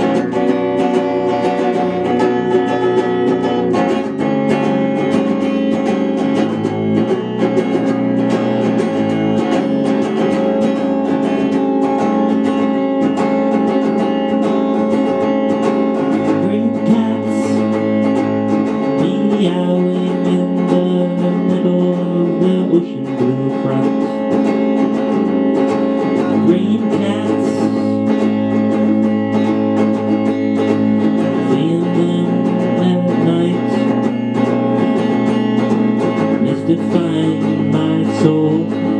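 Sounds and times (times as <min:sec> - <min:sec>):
electric guitar chords: 0:00.0 - 0:38.9.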